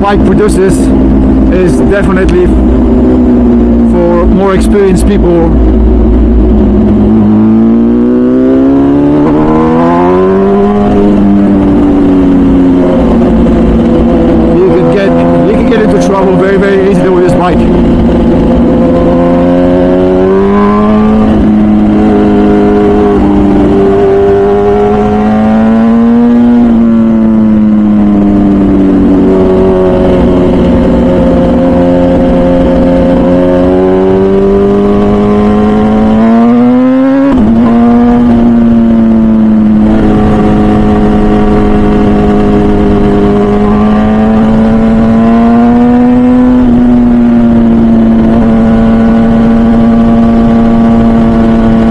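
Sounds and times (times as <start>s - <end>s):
motorcycle engine running loud: 0.0s - 51.9s.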